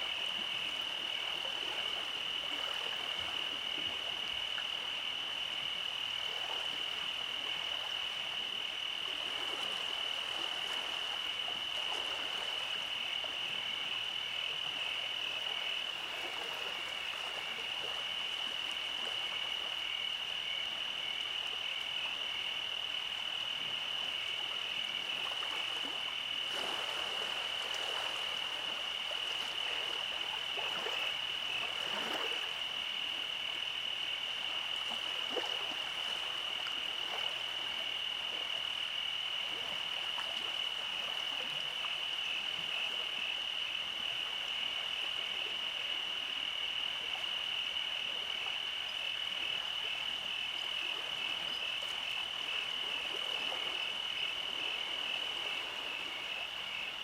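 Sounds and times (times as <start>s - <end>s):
frogs croaking: 0.0s - 57.0s
insects trilling: 0.0s - 57.0s.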